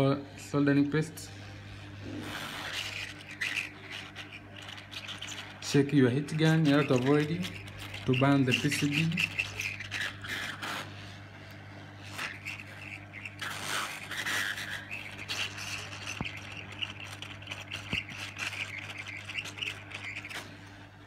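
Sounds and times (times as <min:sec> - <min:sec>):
steady low hum: 0:00.0 - 0:21.0
scraping noises: 0:01.6 - 0:20.9.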